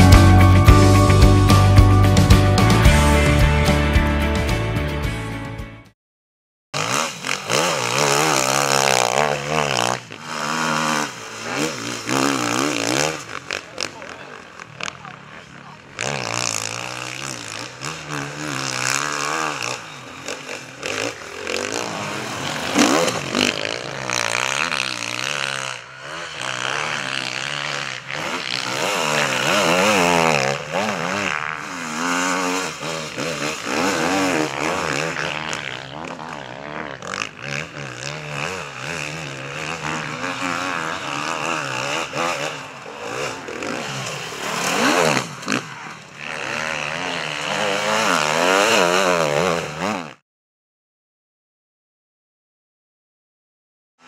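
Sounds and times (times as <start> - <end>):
motorcycle engines revving hard: 6.8 - 50.2.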